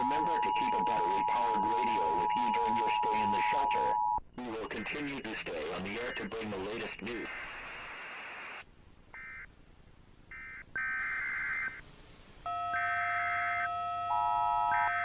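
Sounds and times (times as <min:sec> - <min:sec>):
screeching modem-like data tones: 0:00.0 - 0:08.6, 0:10.3 - 0:11.8, 0:12.4 - 0:15.0.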